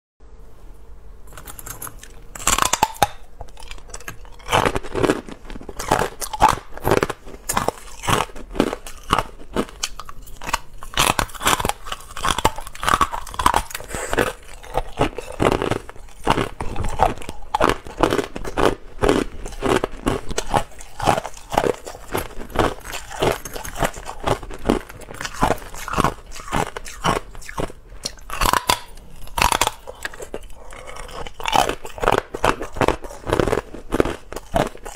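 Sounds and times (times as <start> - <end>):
ice crunching while chewed: 1.3 - 34.9.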